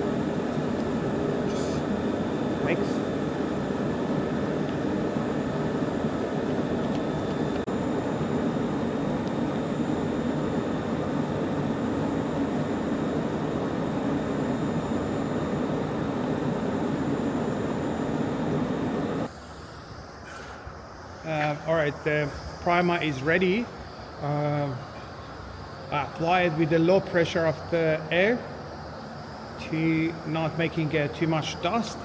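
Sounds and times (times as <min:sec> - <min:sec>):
steady mechanical noise: 0:00.0 - 0:32.0.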